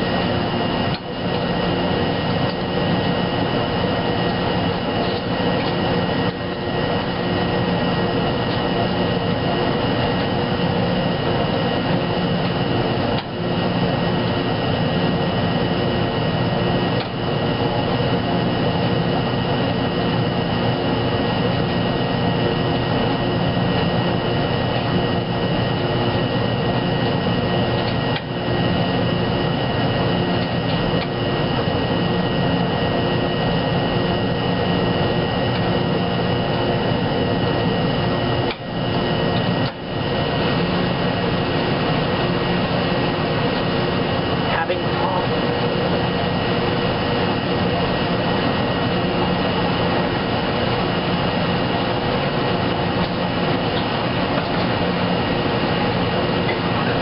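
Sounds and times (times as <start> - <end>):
washing machine drum whine: 0.0 - 57.0.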